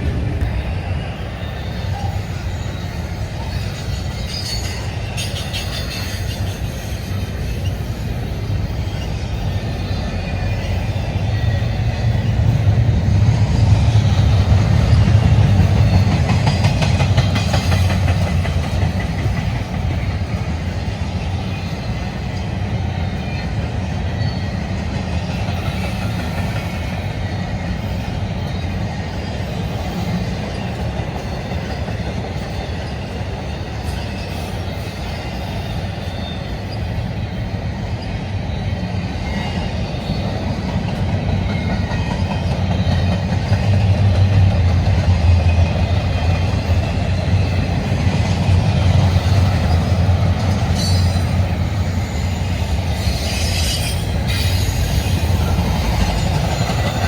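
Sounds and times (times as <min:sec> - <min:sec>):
freight train wheels clicking: 0:00.0 - 0:57.0
train low rumble: 0:00.0 - 0:57.0.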